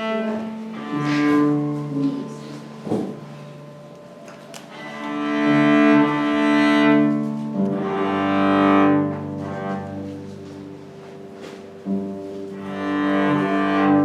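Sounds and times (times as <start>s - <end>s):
cello playing slow melody: 0.0s - 14.0s
piano accompaniment: 0.0s - 14.0s.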